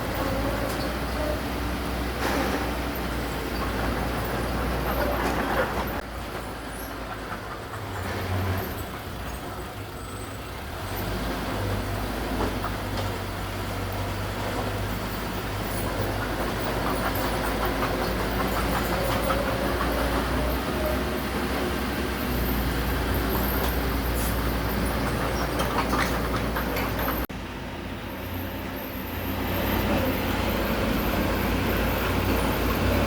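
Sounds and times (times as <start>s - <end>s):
metallic clanking of tracks: 0.0s - 27.3s, 28.0s - 33.0s
diesel machinery humming: 0.0s - 33.0s.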